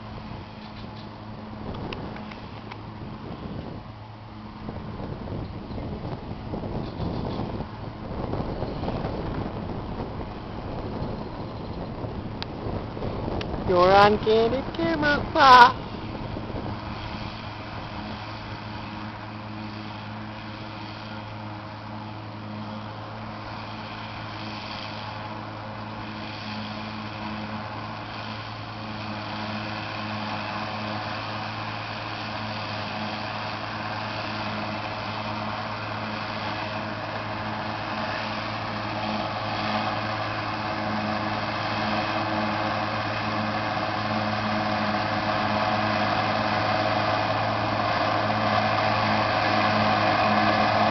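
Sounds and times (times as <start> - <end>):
forage chopper machine noise: 0.0 - 50.9
tractor engine hum: 0.0 - 50.9.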